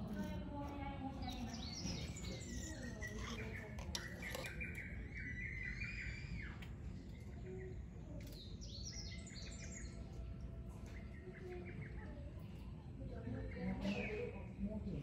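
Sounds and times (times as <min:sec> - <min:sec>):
low background noise: 0:00.0 - 0:15.0
wild birds chirping: 0:00.2 - 0:14.6.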